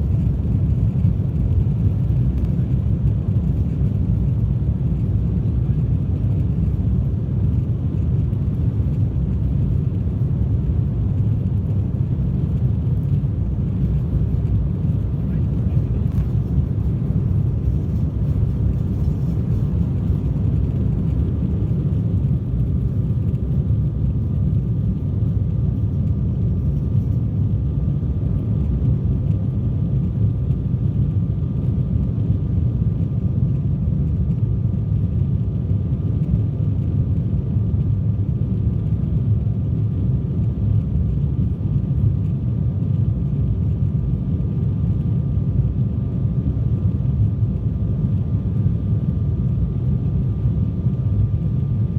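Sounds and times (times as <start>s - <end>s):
faint engine whine: 0.0s - 51.9s
jet engine rumble: 0.0s - 51.9s.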